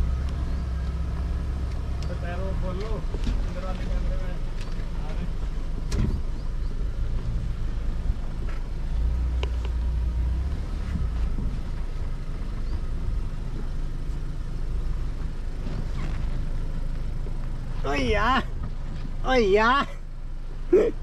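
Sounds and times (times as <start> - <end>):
off-road vehicle engine rumble: 0.0 - 21.0.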